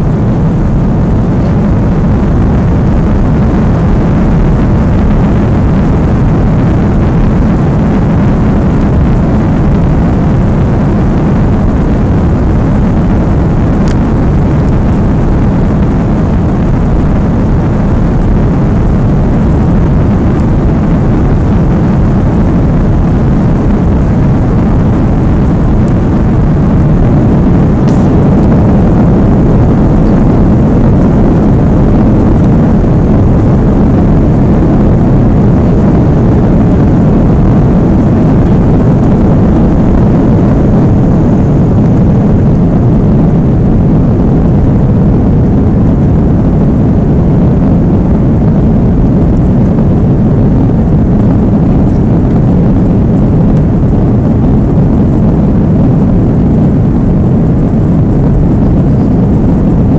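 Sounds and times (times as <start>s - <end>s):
jet engine and airflow noise: 0.0s - 59.9s.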